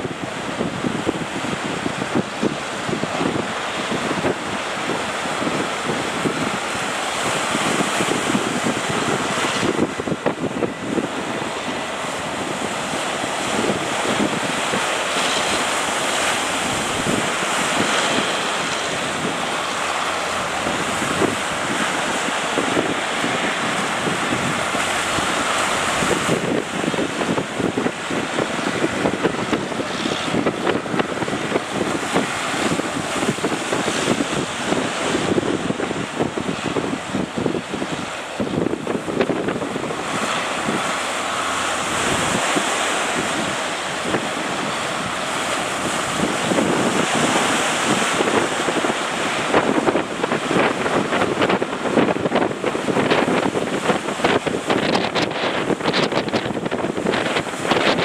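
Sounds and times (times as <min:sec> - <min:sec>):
surf breaking: 0:00.0 - 0:58.0
wind buffeting microphone: 0:00.0 - 0:58.0.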